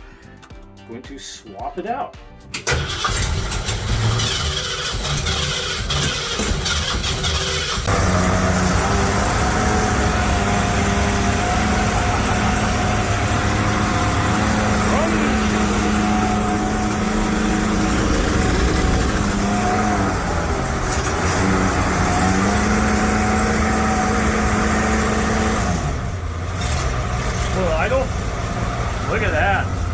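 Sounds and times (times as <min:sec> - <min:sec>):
car engine running: 0:02.7 - 0:29.9.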